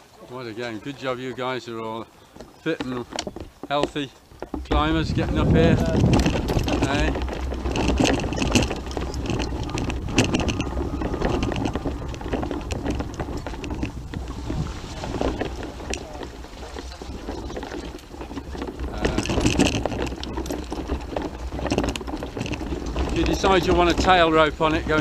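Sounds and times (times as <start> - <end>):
gravel crunching underfoot: 0.0 - 25.0
steady low rumble: 4.6 - 25.0.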